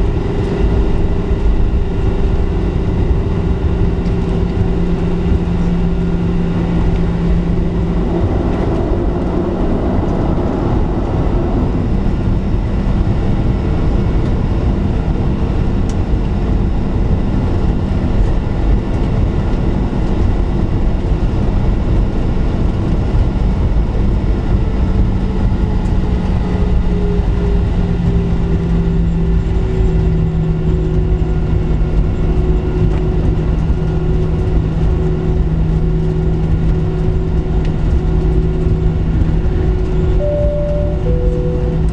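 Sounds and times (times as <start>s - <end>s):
jet engines rumbling in cabin: 0.0s - 41.9s.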